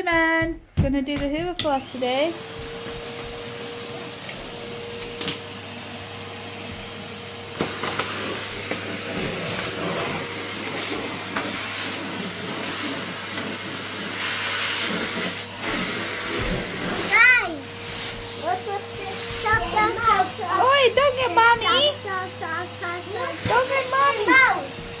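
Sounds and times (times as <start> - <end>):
vacuum cleaner running: 0.4 - 25.0.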